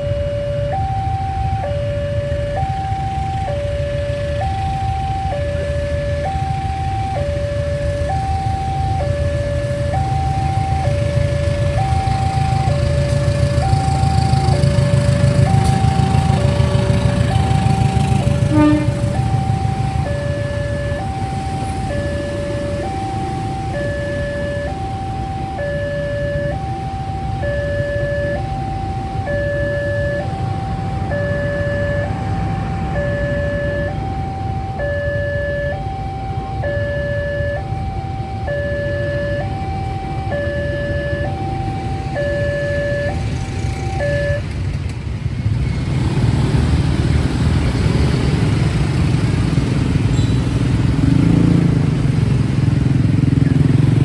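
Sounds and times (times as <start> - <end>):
two-tone level-crossing alarm: 0.0 - 44.8
vehicle engines rumbling: 0.0 - 54.0.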